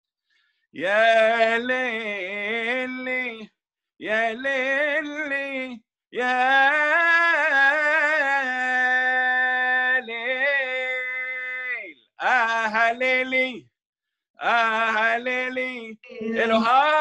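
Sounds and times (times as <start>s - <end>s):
man singing unaccompanied: 0.8s - 13.8s, 14.4s - 17.0s.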